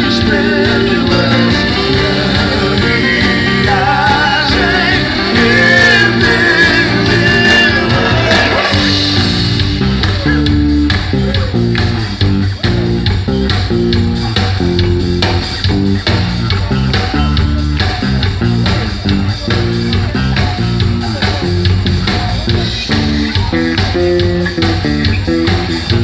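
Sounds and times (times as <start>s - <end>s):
live band playing instrumental: 0.0s - 26.0s.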